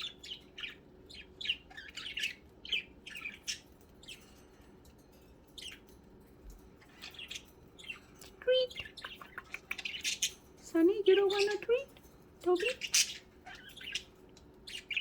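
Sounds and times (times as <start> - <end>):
budgerigars chirping: 0.0 - 4.4, 5.5 - 6.0, 6.8 - 15.0.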